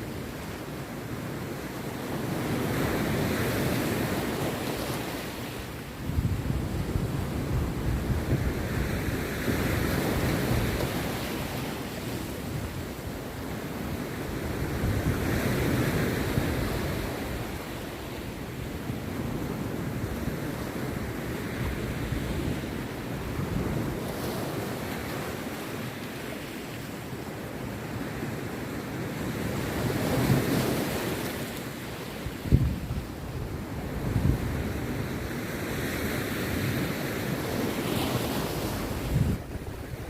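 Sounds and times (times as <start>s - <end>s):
surf waves crashing on beach: 0.0s - 40.0s.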